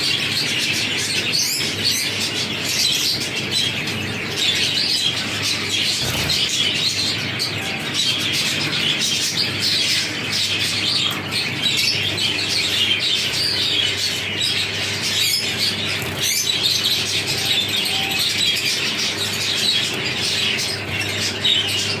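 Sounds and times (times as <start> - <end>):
finches chirping: 0.0 - 22.0.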